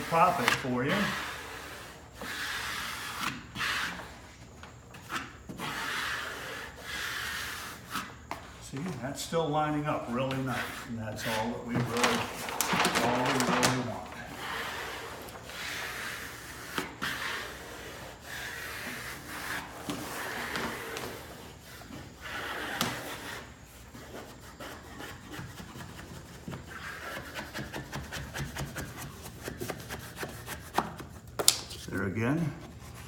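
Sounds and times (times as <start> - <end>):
squeegee rubbing on wallpaper: 0.0 - 33.0.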